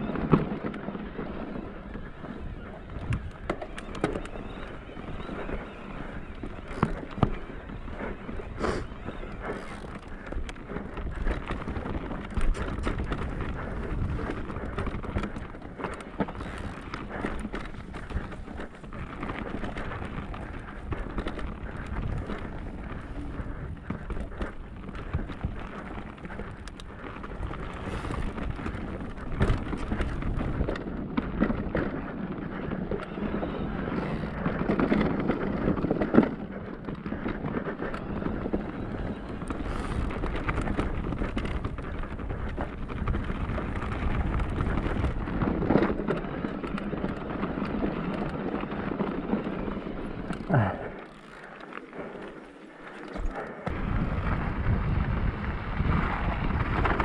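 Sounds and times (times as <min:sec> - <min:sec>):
bike rattling: 0:00.0 - 0:57.0.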